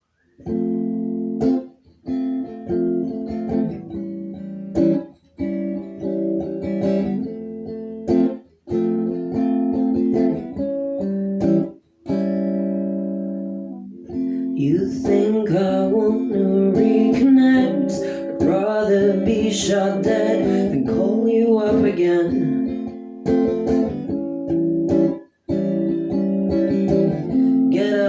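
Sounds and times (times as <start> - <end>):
acoustic guitar strumming: 0.4 - 28.0.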